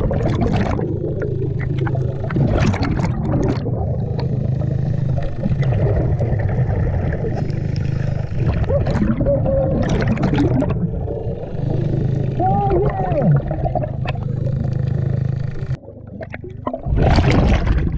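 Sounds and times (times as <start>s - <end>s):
exhaled bubbles: 0.0s - 17.9s
steady low hum: 0.0s - 17.9s.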